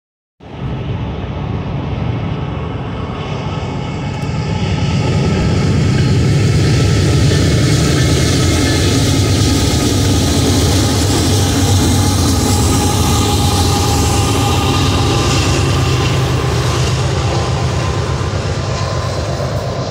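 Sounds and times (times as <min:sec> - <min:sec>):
diesel locomotive engines droning: 0:00.4 - 0:19.9.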